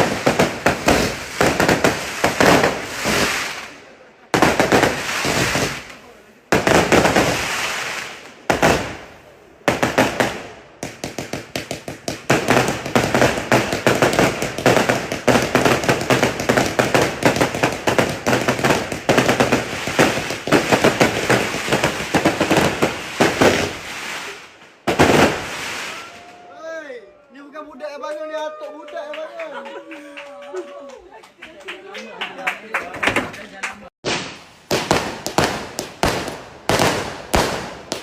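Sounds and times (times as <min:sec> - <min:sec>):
firecracker volley of sharp bangs: 0:00.0 - 0:26.4, 0:32.9 - 0:38.0.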